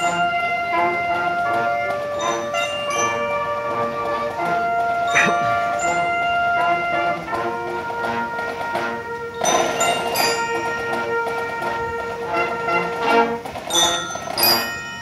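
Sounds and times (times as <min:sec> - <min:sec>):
brass holding sustained notes: 0:00.0 - 0:14.9
rhythmic percussion: 0:00.0 - 0:15.0.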